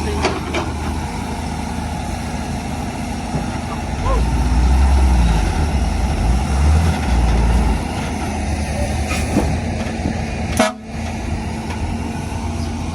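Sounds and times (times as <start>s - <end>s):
diesel engine deep rumble: 0.0s - 12.9s.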